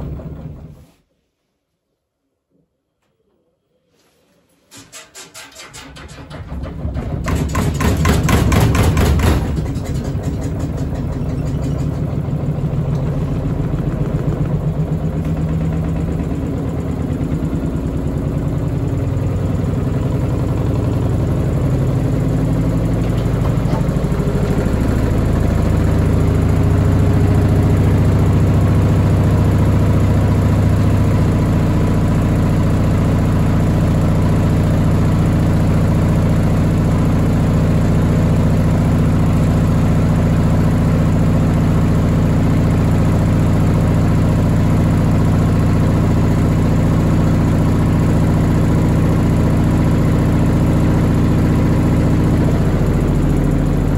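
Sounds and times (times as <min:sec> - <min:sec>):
washing machine spinning: 0:00.0 - 0:00.9, 0:04.8 - 0:53.9.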